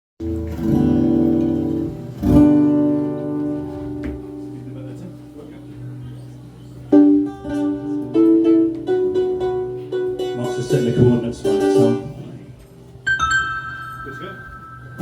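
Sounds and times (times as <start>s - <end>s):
plucked acoustic string melody: 0.2s - 5.2s, 6.9s - 15.0s.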